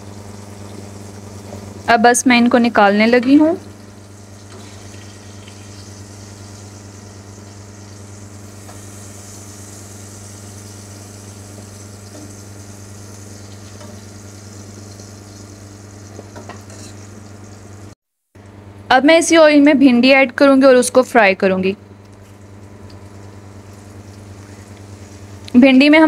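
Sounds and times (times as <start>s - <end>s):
oil sizzling in a frying pan: 0.0s - 18.0s, 22.3s - 25.8s.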